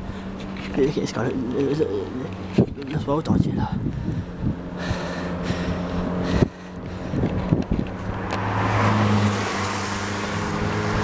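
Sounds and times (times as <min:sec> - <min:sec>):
engine hum of traffic: 0:00.0 - 0:11.0.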